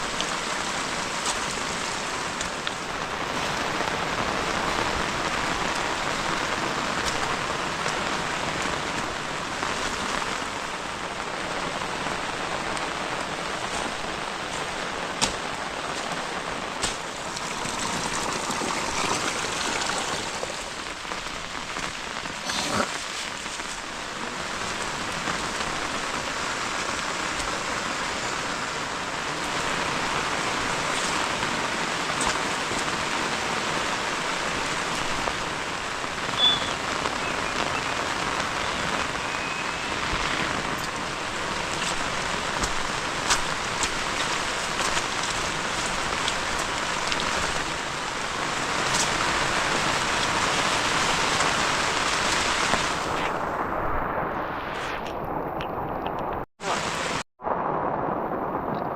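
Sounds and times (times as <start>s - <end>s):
heavy rain hissing: 0.0s - 58.9s
sharp raindrop impacts: 0.0s - 58.9s.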